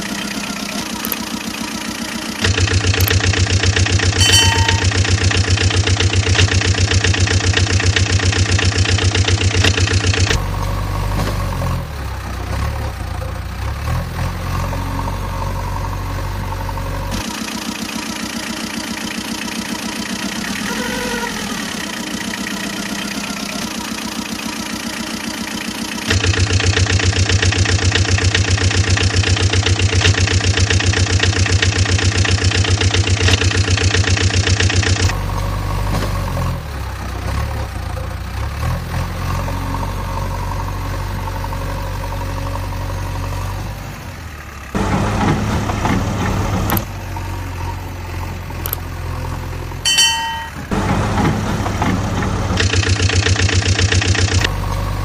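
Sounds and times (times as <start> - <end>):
vehicle engine running and idling: 0.0 - 55.0.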